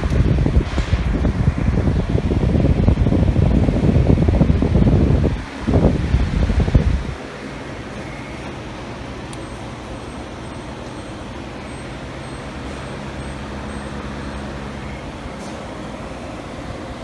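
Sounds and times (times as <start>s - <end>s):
fan blowing air: 0.0s - 17.0s.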